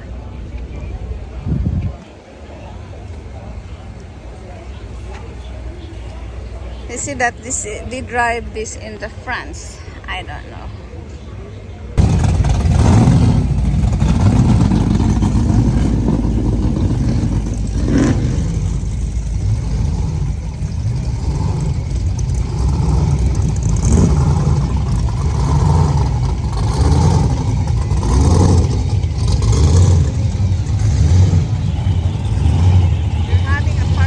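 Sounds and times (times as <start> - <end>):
car engine rumbling: 0.0 - 10.9, 11.9 - 34.0.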